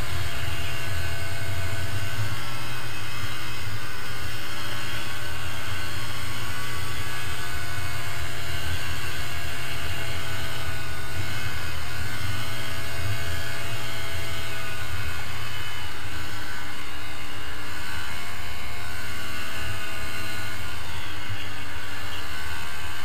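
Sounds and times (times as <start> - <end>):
snowmobile engine running: 0.0 - 23.0.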